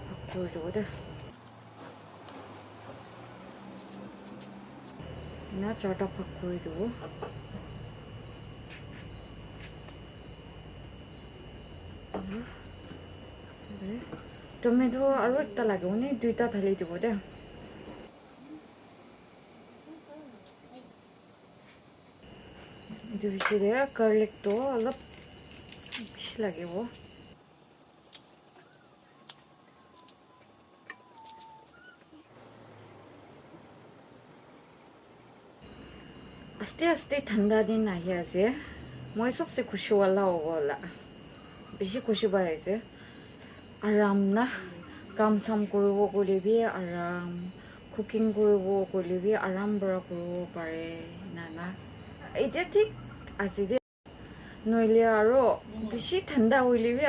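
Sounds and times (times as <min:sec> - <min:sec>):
crickets chirping: 0:00.0 - 0:57.0
insects trilling: 0:00.0 - 0:57.0.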